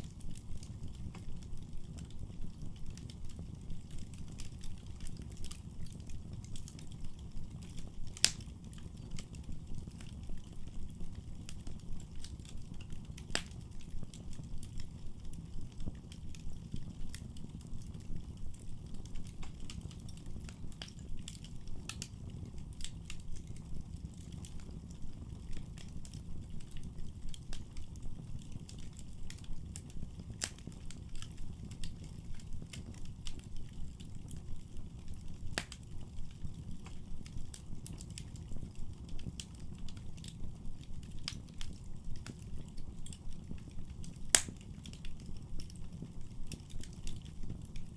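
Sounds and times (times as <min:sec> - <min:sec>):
fire low rumble: 0:00.0 - 0:47.9
firewood crackling and popping: 0:00.0 - 0:47.9.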